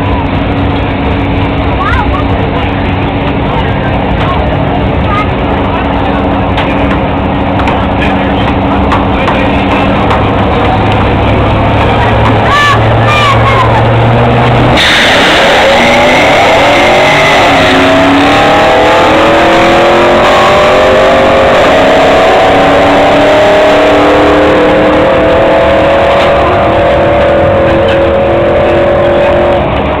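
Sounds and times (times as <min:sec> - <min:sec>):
drag racing cars accelerating: 0:00.0 - 0:30.0.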